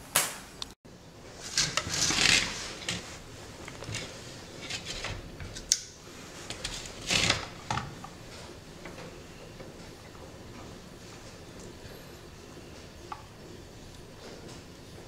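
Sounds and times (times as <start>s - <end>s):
cable rustling and scraping: 1.2s - 15.0s.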